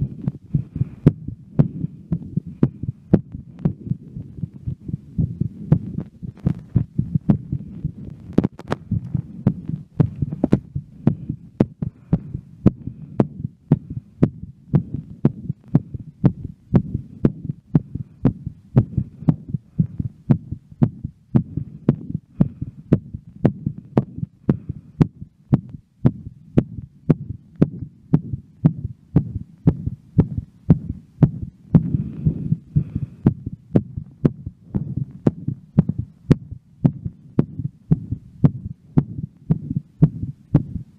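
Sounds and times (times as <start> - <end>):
fast heartbeat: 0.0 - 40.9
low rumble: 0.0 - 40.9.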